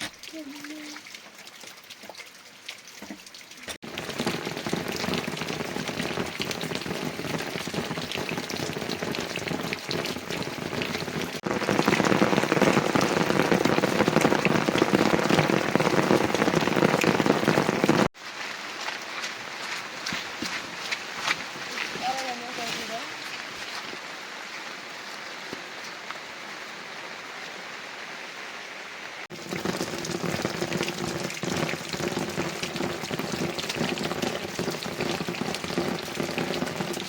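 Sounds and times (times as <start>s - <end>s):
heavy rain: 3.8s - 37.0s.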